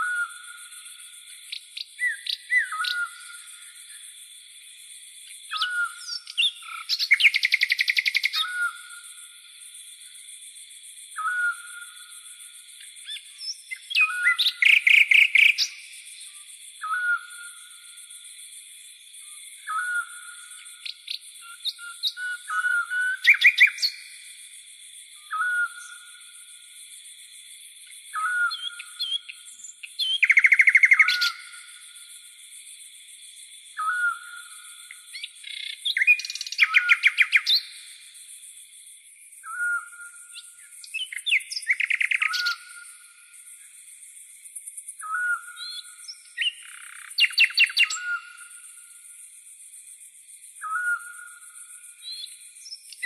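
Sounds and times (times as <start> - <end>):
crickets chirring: 0.0 - 53.0.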